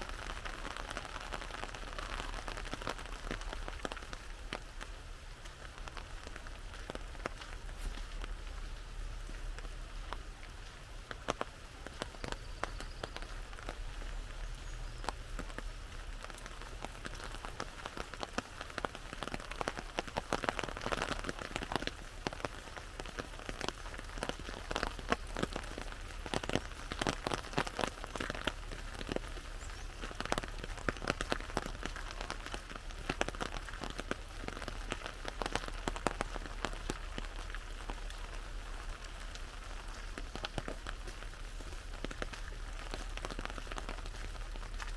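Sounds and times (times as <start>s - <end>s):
rain on an umbrella: 0.0s - 44.9s.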